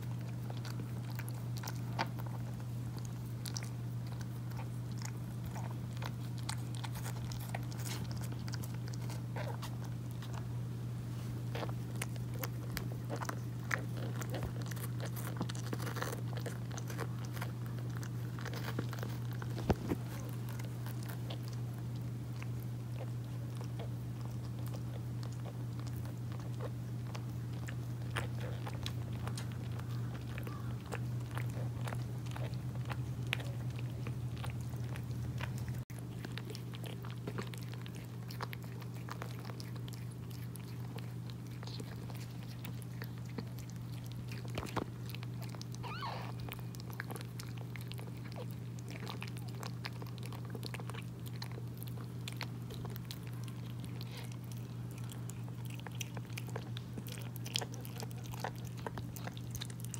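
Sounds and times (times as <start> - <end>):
cat licking and chewing: 0.0 - 59.9
steady low hum: 0.0 - 59.9.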